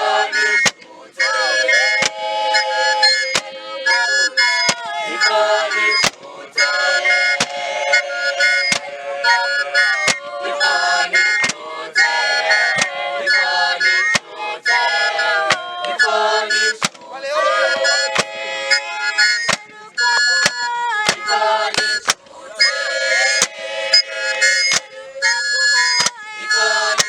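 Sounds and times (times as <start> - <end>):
group singing: 0.0 - 27.0.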